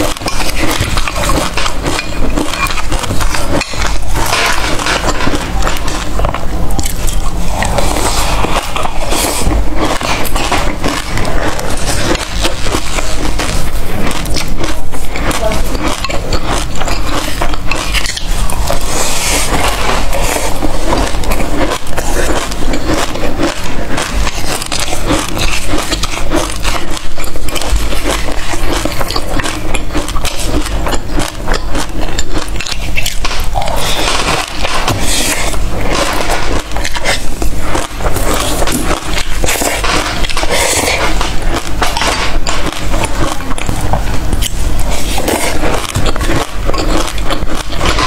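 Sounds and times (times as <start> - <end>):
crunching and chewing seeds: 0.0 - 48.0.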